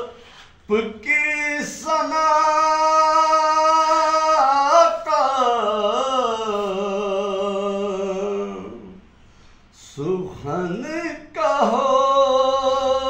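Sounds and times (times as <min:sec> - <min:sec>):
man singing unaccompanied: 0:00.0 - 0:09.0, 0:09.8 - 0:13.0.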